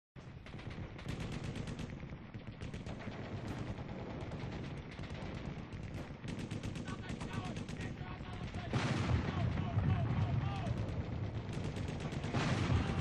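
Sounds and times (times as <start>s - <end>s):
automatic gunfire bursts: 0.4s - 13.0s.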